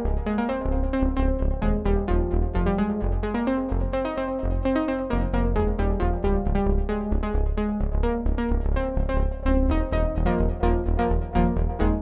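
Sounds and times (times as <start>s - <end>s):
held low synth bass: 0.0s - 12.0s
synth plucky notes: 0.0s - 12.0s.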